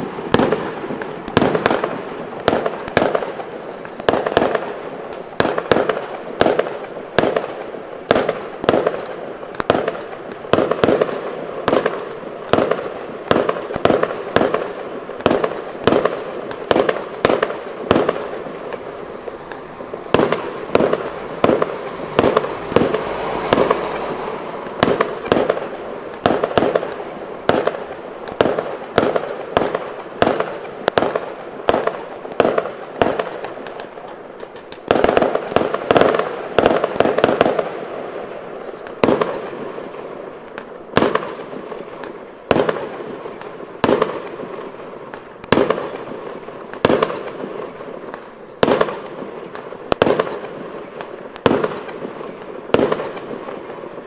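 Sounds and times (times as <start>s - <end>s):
firework bangs: 0.0s - 54.0s
firework crackling: 0.0s - 54.0s.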